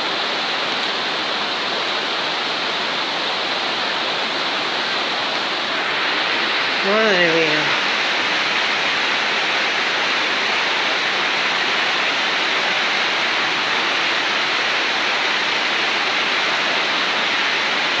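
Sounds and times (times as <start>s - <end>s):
floodwater rushing along street: 0.0s - 18.0s
torrential rain: 0.0s - 18.0s.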